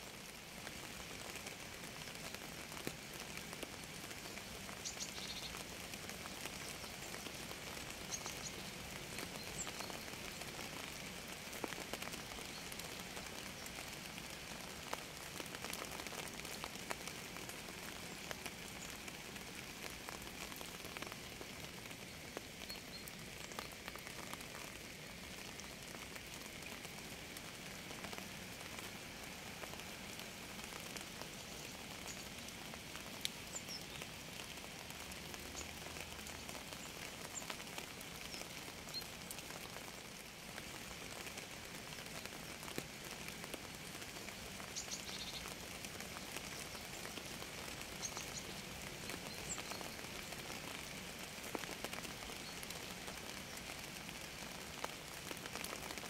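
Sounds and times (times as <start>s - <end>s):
steady rain hiss: 0.0s - 56.0s
raindrops ticking: 0.2s - 56.0s.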